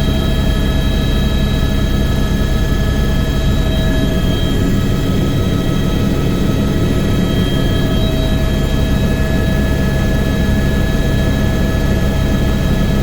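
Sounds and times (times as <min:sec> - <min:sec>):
helicopter rotor and engine drone: 0:00.0 - 0:13.0
high turbine whine: 0:00.0 - 0:13.0.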